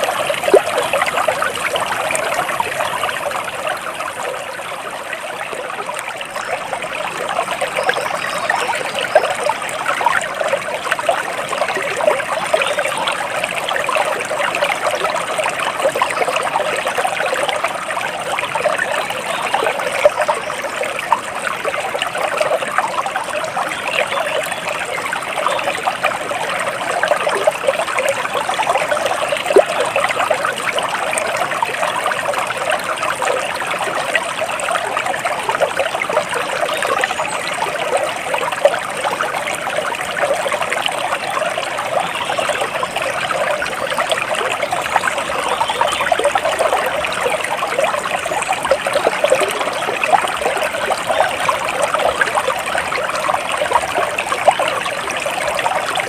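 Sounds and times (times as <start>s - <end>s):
water trickling and babbling: 0.0s - 56.0s.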